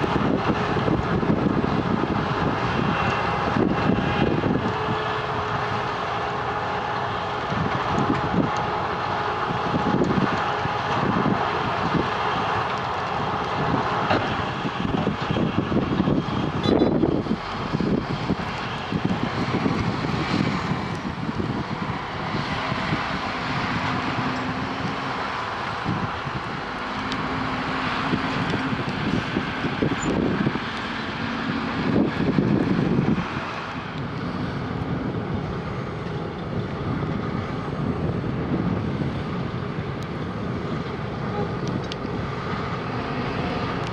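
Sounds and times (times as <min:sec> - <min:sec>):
heavy diesel machinery rumbling: 0:00.0 - 0:43.9.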